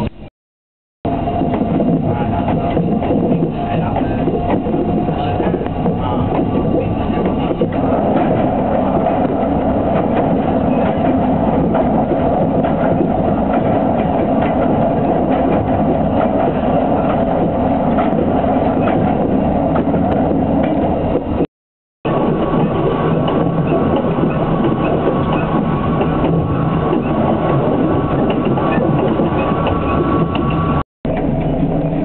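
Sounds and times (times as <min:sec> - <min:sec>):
diesel train rumbling: 0:01.0 - 0:32.0
train wheel clicks: 0:01.4 - 0:21.5, 0:22.1 - 0:31.9.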